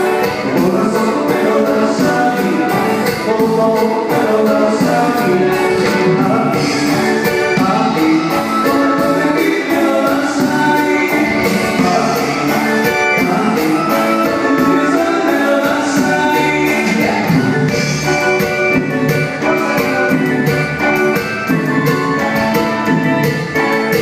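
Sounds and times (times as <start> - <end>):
drum kit with cymbal beat: 0.0 - 24.0
guitar: 0.0 - 24.0
keyboard: 0.0 - 24.0
person singing: 0.0 - 24.0.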